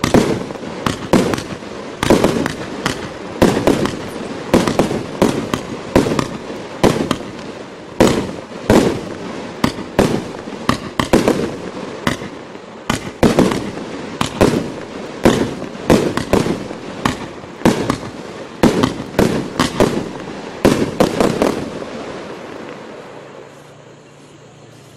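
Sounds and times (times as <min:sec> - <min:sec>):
fireworks firing sharp bangs: 0:00.0 - 0:23.5.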